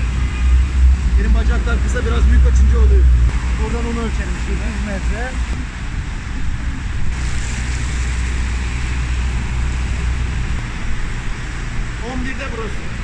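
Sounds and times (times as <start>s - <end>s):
traffic on wet roads: 0.0s - 13.0s.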